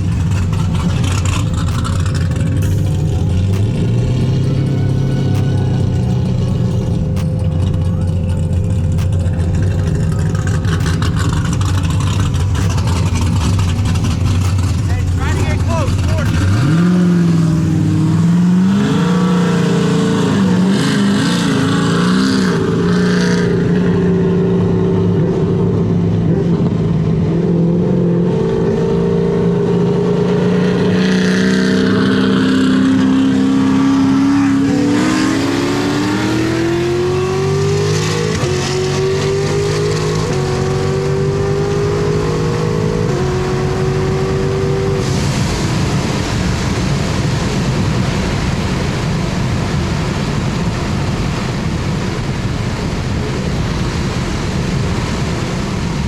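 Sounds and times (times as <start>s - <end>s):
car engine revving loud: 0.0s - 56.0s.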